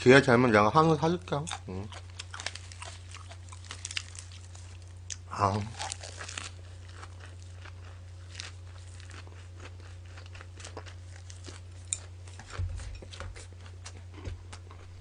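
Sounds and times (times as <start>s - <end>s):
low electrical hum: 0.0s - 15.0s
person chewing: 1.4s - 15.0s.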